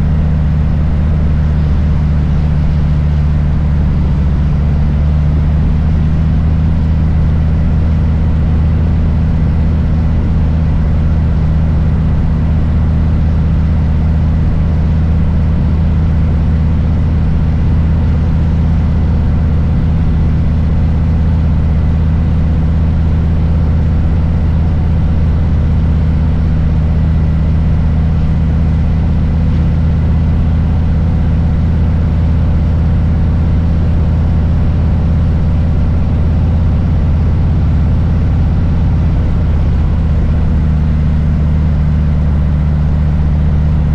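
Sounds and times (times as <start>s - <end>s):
motorcycle engine rumbling: 5.6s - 43.9s.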